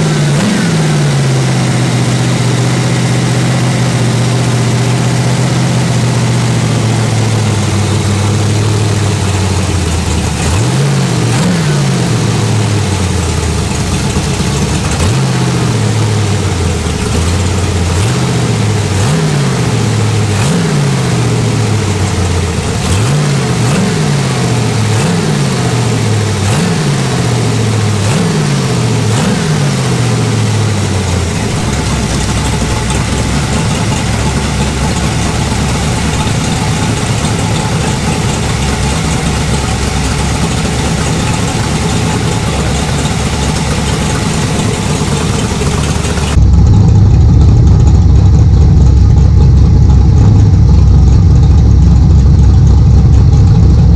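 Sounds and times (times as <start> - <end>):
engine revving: 0.0 - 53.9.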